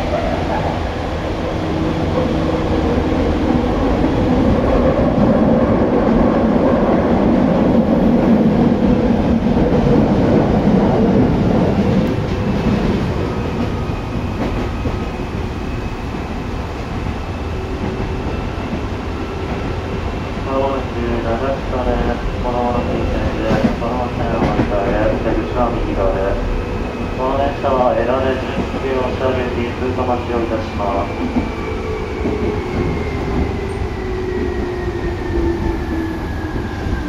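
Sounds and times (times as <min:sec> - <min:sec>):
wheel and rail rumble: 0:00.0 - 0:37.0.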